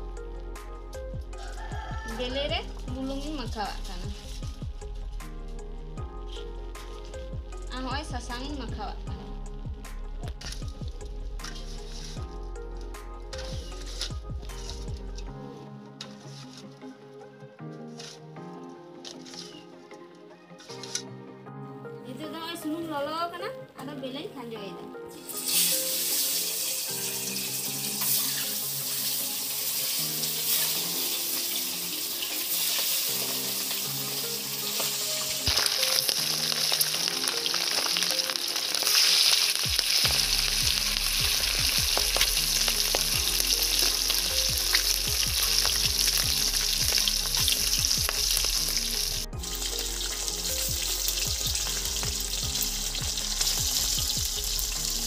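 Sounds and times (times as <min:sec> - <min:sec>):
eggs sizzling in hot oil: 0:00.0 - 0:15.4, 0:25.1 - 0:55.0
background music: 0:00.0 - 0:55.0.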